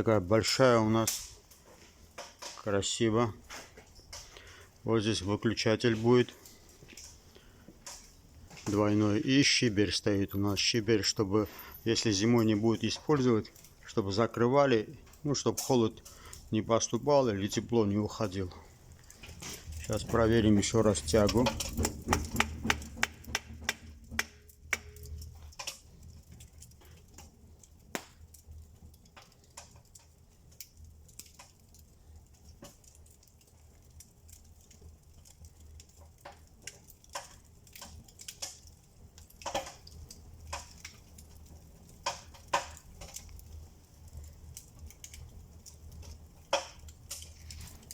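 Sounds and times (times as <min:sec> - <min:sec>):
small fire crackling: 0:00.0 - 0:47.9.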